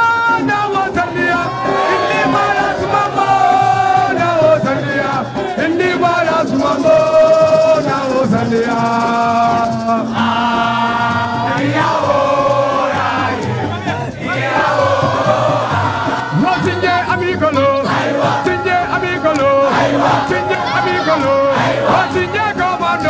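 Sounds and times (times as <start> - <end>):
music: 0.0 - 23.0.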